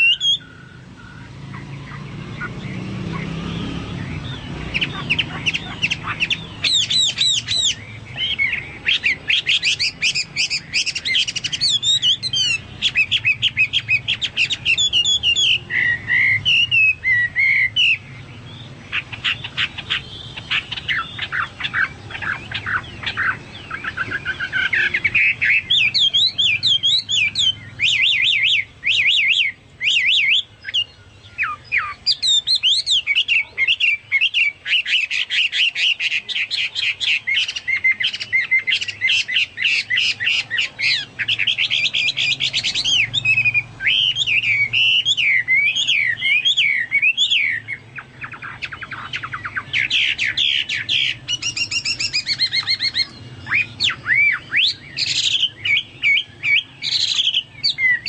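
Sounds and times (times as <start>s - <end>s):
songbird singing trills and whistles: 0.0s - 58.0s.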